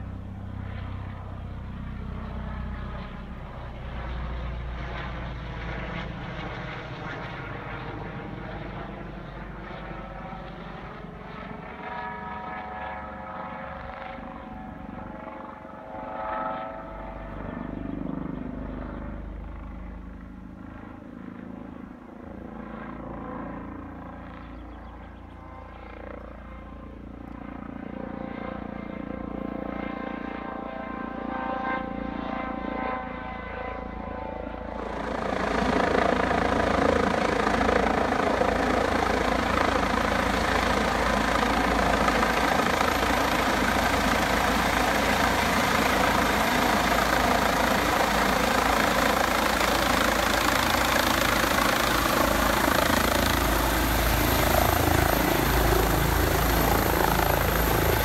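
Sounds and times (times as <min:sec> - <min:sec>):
helicopter rotor: 0:00.0 - 0:58.0.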